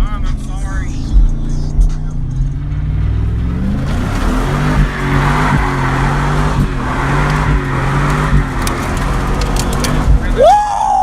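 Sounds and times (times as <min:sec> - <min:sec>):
truck engine revving: 0:00.0 - 0:10.5.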